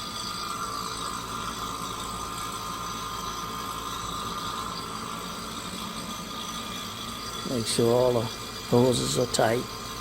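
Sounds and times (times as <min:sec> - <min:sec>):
vacuum pump running: 0:00.0 - 0:10.0
vent fan running: 0:00.0 - 0:10.0.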